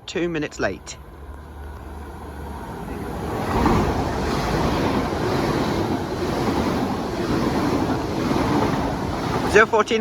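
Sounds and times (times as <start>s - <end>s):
train passing at speed: 0.0s - 10.0s.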